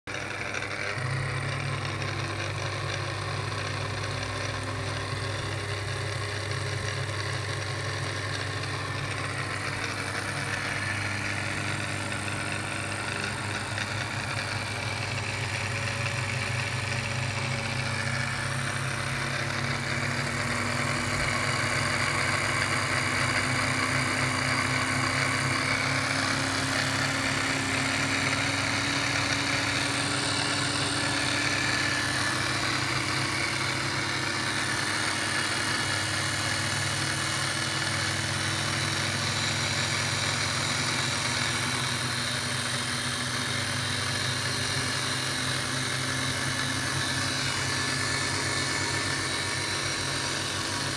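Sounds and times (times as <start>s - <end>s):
lathe motor humming: 0.1s - 50.9s.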